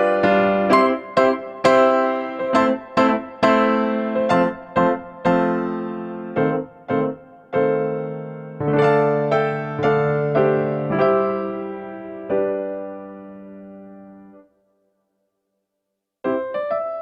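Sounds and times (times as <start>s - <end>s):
piano melody: 0.0s - 14.6s, 16.2s - 17.0s.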